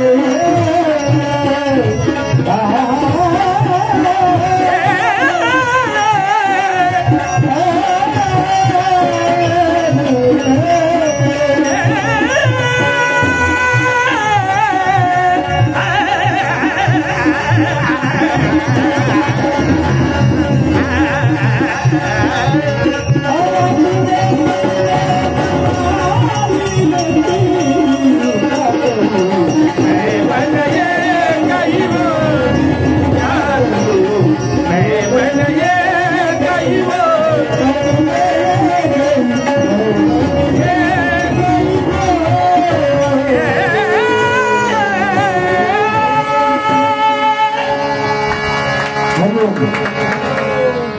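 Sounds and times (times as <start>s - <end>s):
continuous drum rhythm: 0.0s - 50.9s.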